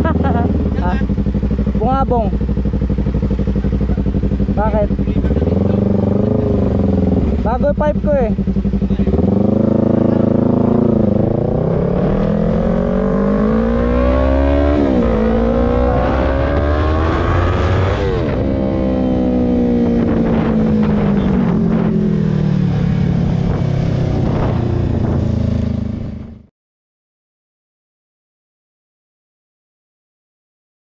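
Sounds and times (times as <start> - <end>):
motorcycle engine accelerating: 0.0 - 26.5.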